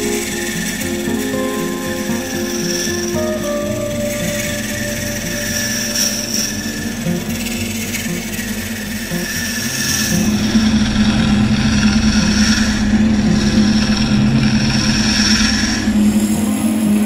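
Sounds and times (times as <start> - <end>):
wood lathe humming: 0.0 - 17.0.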